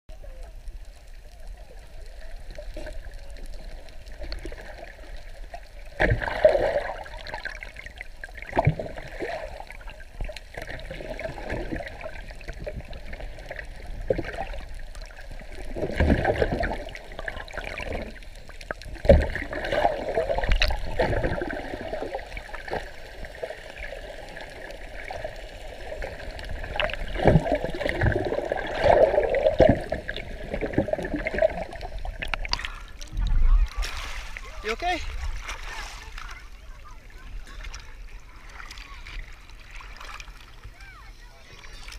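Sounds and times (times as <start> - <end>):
water sloshing and gurgling: 0.2 - 41.9.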